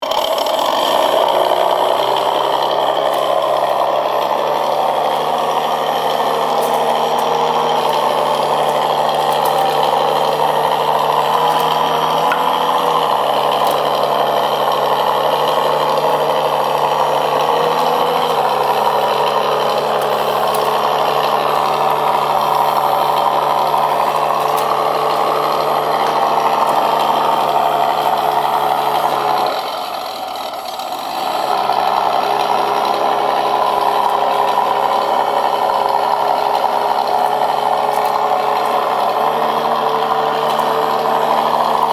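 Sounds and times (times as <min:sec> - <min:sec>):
simulated engine sound: 0:00.0 - 0:41.9.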